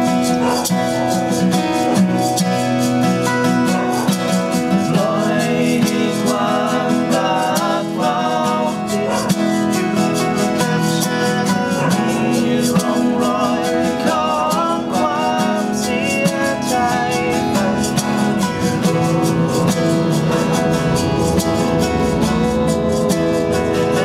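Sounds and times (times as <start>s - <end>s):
acoustic guitars strumming: 0.0s - 24.0s
man singing: 4.7s - 24.0s.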